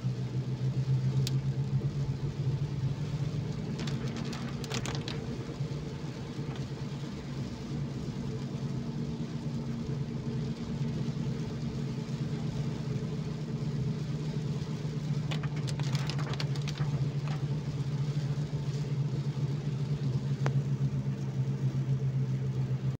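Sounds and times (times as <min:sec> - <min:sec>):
car engine humming: 0:00.0 - 0:23.0
tyres hissing on wet road: 0:00.0 - 0:23.0.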